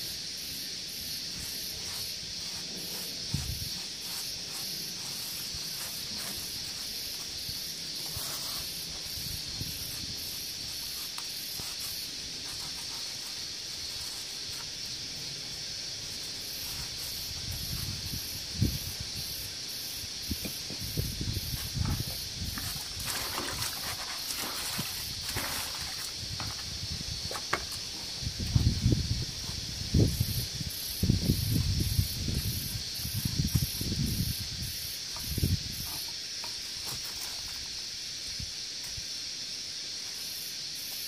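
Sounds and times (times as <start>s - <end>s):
steady high-pitched hiss: 0.0s - 41.0s.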